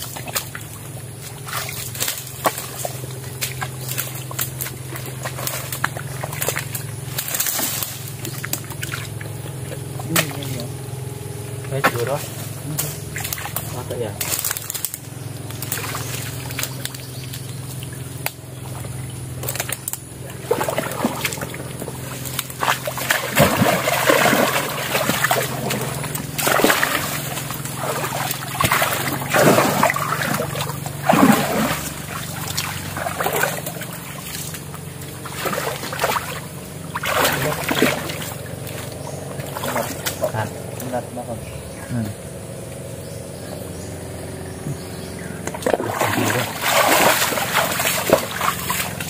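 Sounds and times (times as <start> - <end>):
muddy water splashing: 0.0 - 49.0.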